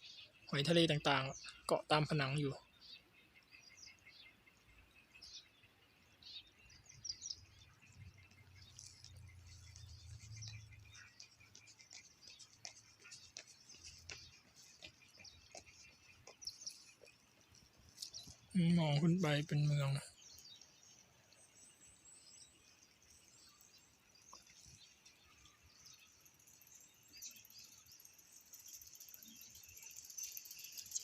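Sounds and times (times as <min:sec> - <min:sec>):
faint high-pitched ticks and chirps: 0:00.0 - 0:31.0.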